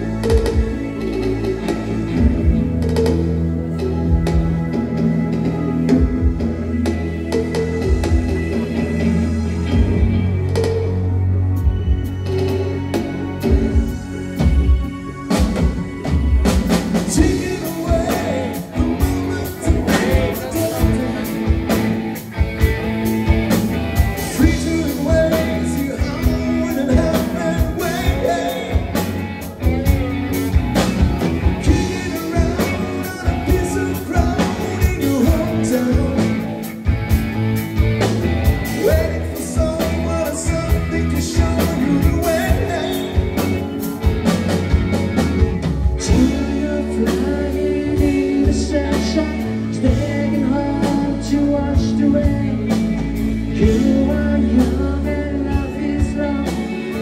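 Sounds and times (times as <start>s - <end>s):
person singing: 0.0s - 22.4s, 24.2s - 36.9s, 38.5s - 44.5s, 45.6s - 57.0s
drums: 0.0s - 57.0s
electric guitar: 0.0s - 57.0s.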